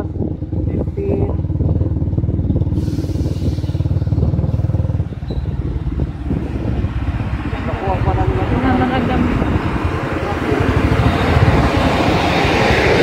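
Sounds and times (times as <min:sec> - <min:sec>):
motorcycle engine running: 0:00.0 - 0:12.2
wind rushing over microphone: 0:00.0 - 0:13.0.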